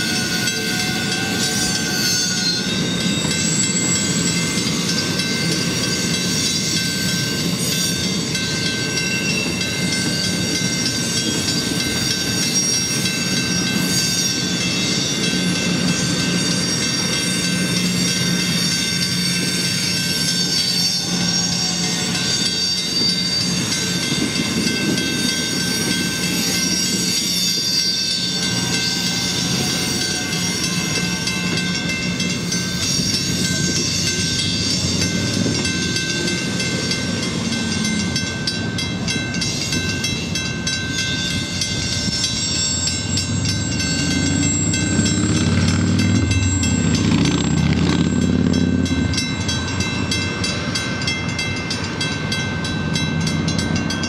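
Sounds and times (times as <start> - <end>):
crossing bell ringing: 0.0 - 54.0
train wheels clacking over rails: 0.0 - 54.0.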